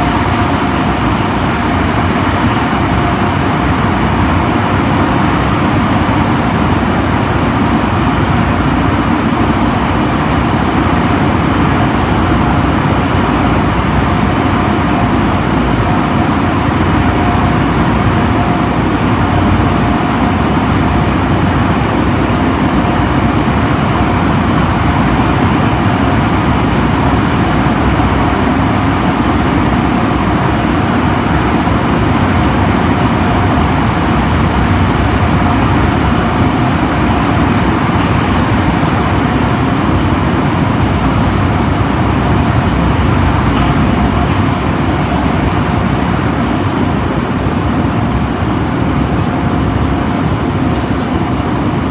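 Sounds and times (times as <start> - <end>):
constant whine: 0.0 - 51.9
dryer blowers rushing air: 0.0 - 51.9.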